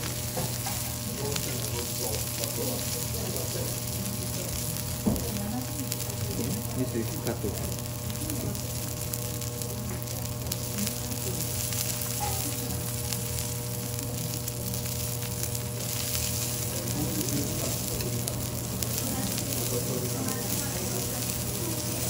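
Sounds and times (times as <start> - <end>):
steak sizzling on griddle: 0.0 - 22.0.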